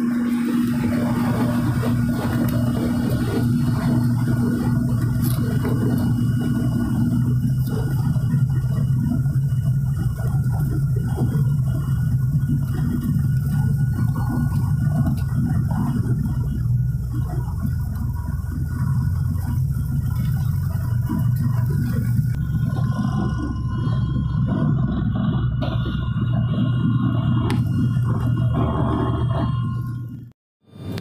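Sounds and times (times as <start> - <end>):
propeller engines droning in cabin: 0.0 - 31.0.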